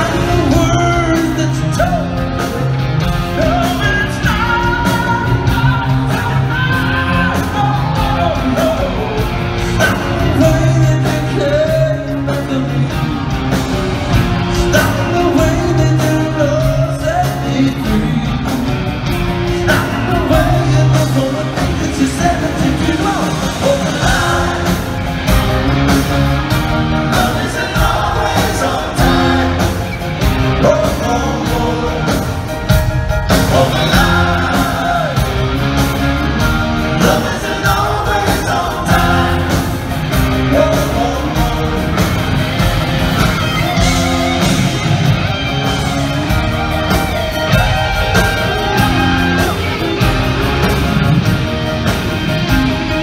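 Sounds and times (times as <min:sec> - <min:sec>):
lead singer singing: 0:00.0 - 0:51.2
live rock band playing: 0:00.0 - 0:53.0.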